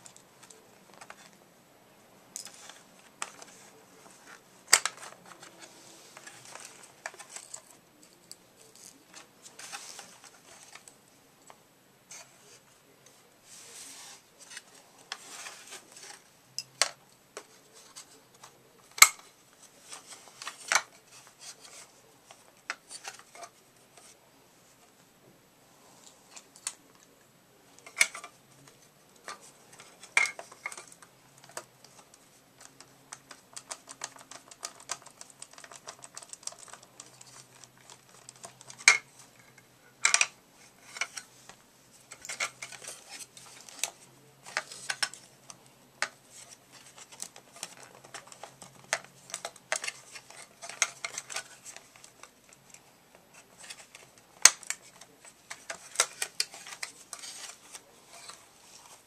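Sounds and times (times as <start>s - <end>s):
hard plastic parts clicking and rattling: 2.4s - 12.4s, 14.4s - 24.2s, 27.7s - 59.0s.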